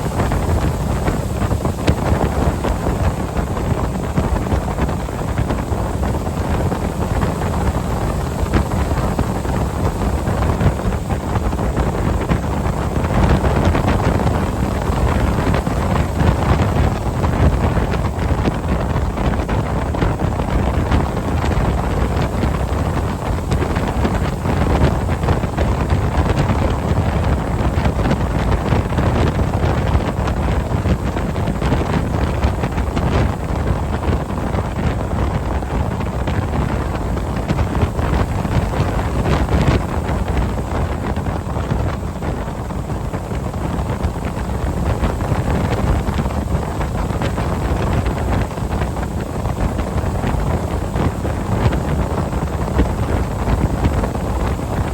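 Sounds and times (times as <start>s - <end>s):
boat engine running: 0.0s - 54.9s
wind buffeting microphone: 0.0s - 54.9s.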